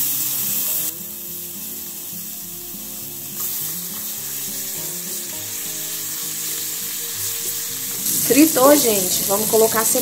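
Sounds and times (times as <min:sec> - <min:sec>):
background music: 0:00.0 - 0:10.0
oil sizzling in a frying pan: 0:00.0 - 0:10.0.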